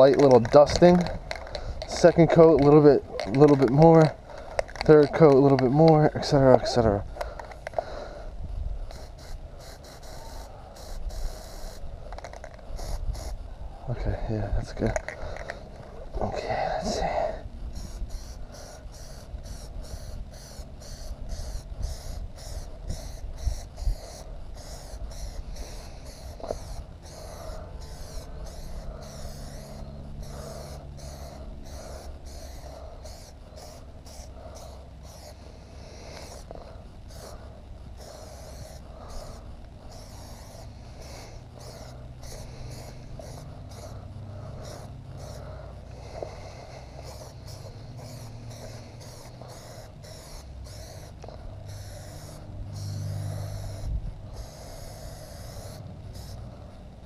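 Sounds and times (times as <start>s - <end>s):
aerosol can spraying: 0.0s - 6.0s, 8.9s - 13.4s, 17.7s - 56.6s.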